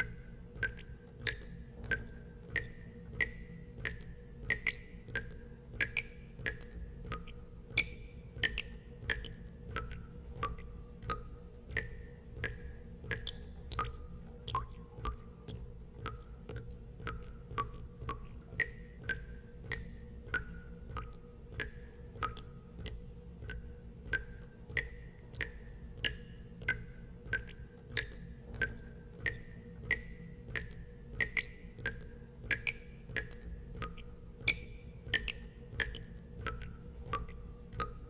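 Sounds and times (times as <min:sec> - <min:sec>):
steady low hum: 0:00.0 - 0:38.0
water drops plinking into water: 0:00.0 - 0:38.0.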